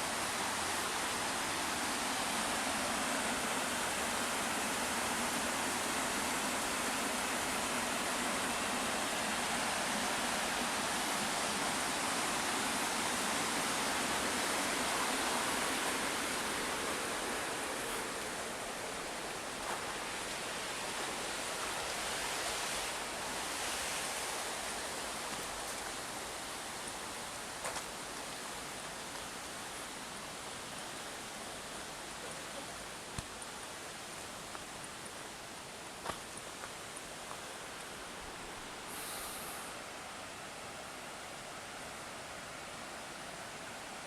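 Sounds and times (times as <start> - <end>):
water rushing in canal: 0.0 - 36.0.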